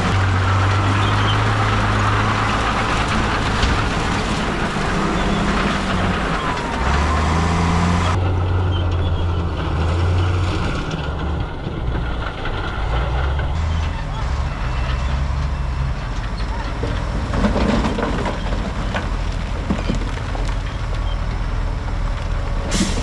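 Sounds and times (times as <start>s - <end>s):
heavy diesel engine running: 0.0s - 23.0s
rattling and grinding: 0.0s - 23.0s.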